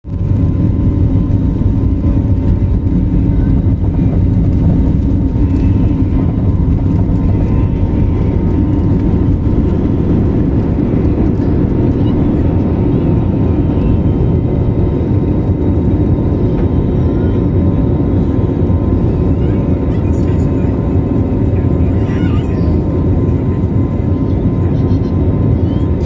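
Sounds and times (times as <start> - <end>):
airplane engines rumbling: 0.0 - 26.0.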